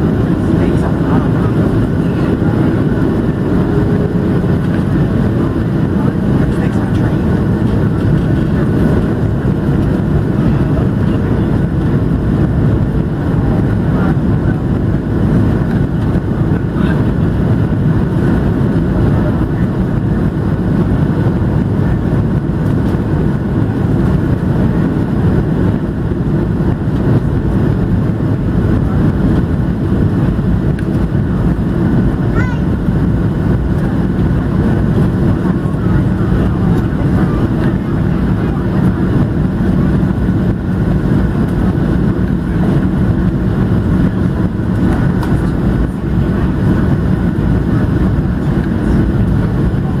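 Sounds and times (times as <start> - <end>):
jet engine cabin rumble: 0.0 - 50.0.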